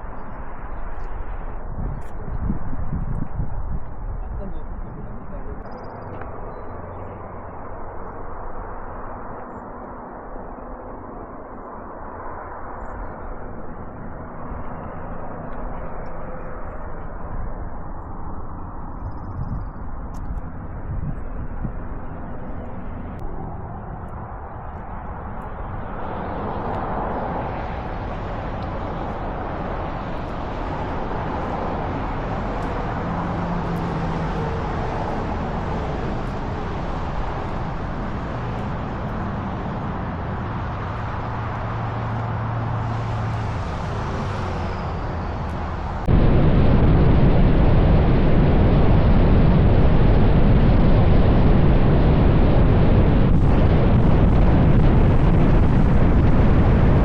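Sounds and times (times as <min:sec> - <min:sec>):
outdoor rumbling noise: 0:00.0 - 0:57.0.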